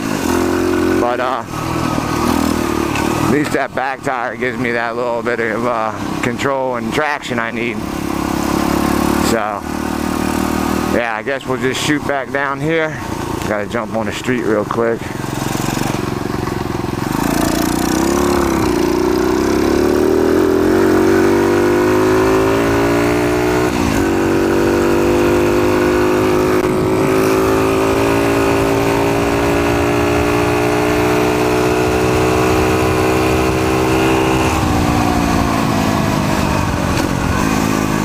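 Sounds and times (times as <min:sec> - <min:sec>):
motorbike engine revving: 0:00.0 - 0:38.0.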